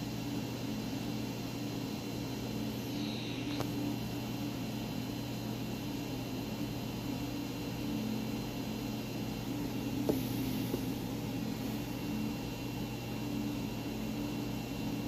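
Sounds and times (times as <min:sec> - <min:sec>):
faint high whine: 0:00.0 - 0:15.0
steady mechanical hum: 0:00.0 - 0:15.0.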